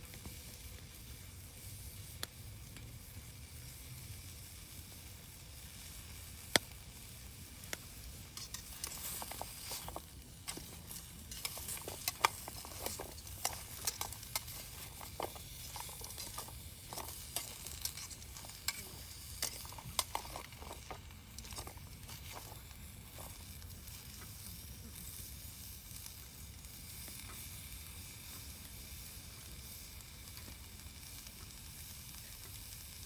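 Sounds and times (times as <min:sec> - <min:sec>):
campfire crackling and popping: 0:00.0 - 0:33.0
steady hiss: 0:00.0 - 0:33.0.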